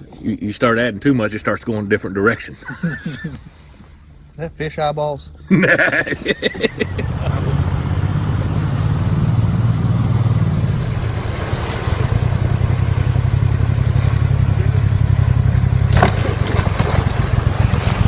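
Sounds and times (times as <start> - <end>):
boat motor rumbling: 2.2 - 18.0.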